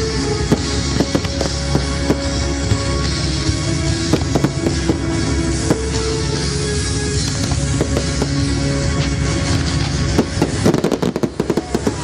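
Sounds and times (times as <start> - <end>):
fireworks bursting: 0.0 - 12.0
loud steady music: 0.0 - 12.0.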